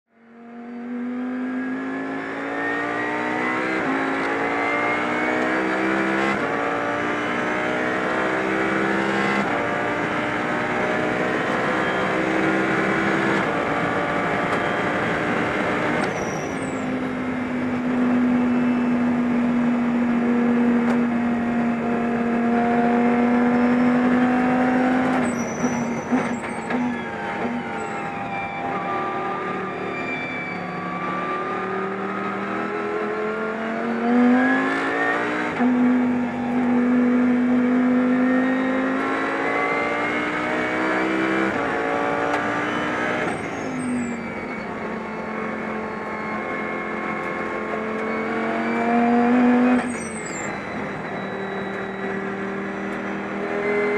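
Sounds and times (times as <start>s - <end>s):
race car engine revving: 0.2s - 53.9s.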